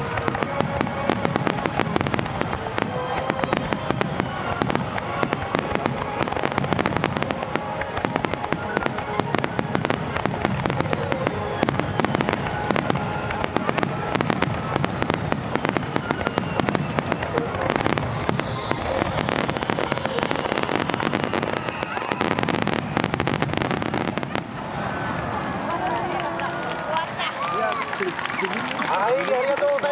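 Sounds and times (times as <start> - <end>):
fireworks bursting and crackling: 0.0 - 29.9.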